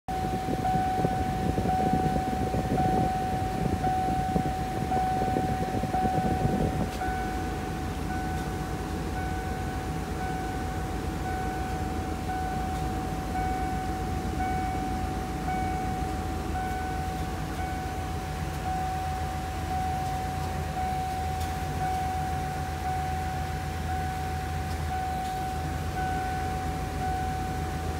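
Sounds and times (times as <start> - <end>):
pulsing high warning tone: 0.1 - 27.9
van engine idling: 0.1 - 27.9.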